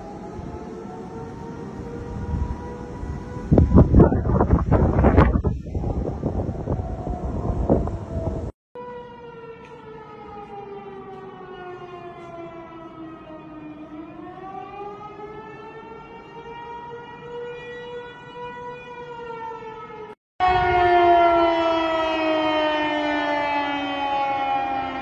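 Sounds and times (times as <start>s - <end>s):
siren with falling pitch: 0.0s - 25.0s
tornado warning siren wailing: 0.0s - 25.0s.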